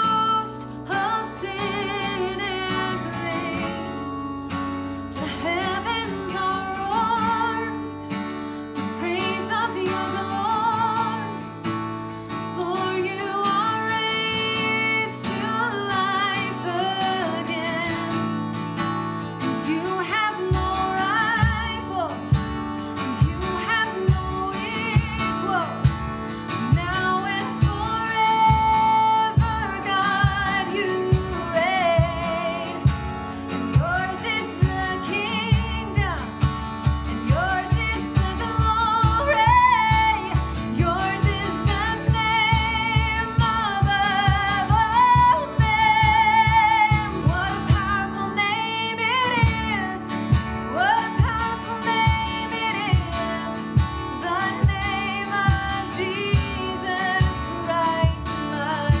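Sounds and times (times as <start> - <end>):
strummed guitar: 0.0 - 59.0.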